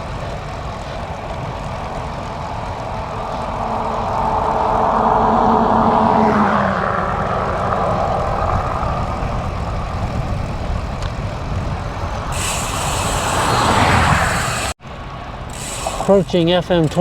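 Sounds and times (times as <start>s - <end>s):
bicycle freehub ticking: 0.0s - 14.7s, 15.5s - 17.0s
wind rushing over microphone: 0.0s - 14.8s
tractor engine passing: 0.0s - 17.0s.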